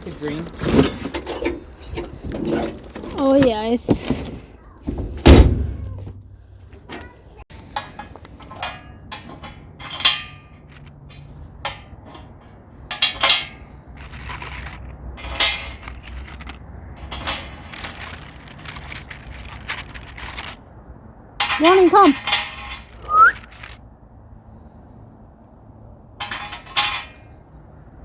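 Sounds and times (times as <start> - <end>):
metal parts knocking and clunking: 0.2 - 20.6, 21.3 - 23.8, 26.2 - 27.3.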